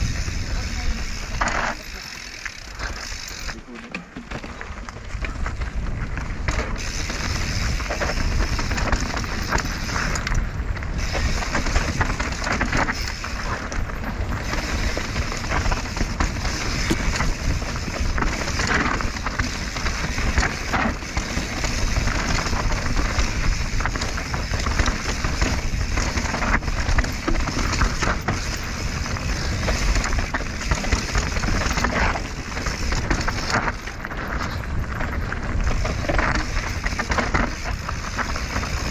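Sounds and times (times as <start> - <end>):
bike rattling over bumps: 0.0 - 38.9
bike tyres on dirt and stones: 0.0 - 38.9.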